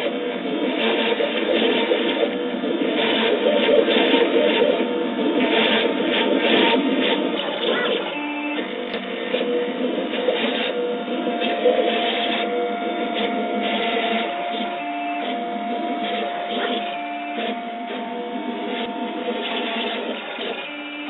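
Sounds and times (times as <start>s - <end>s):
steady machine whine: 0.0s - 21.0s
stepper motors whirring: 0.0s - 21.0s.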